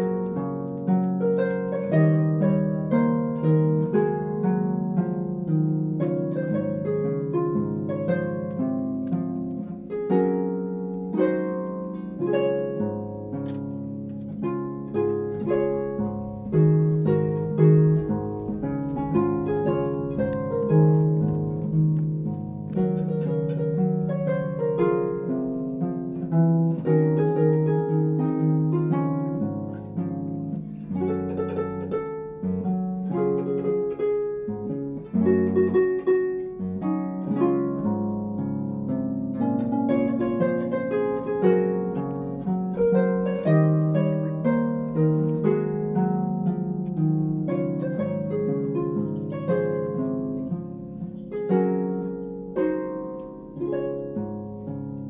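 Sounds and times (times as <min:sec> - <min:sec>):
harp music: 0:00.0 - 0:55.0.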